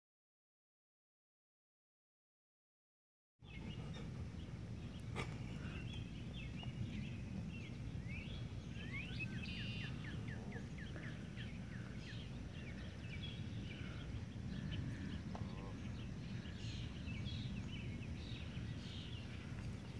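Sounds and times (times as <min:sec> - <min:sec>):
birds chirping and calling: 0:03.4 - 0:19.9
low outdoor rumble: 0:03.4 - 0:19.9.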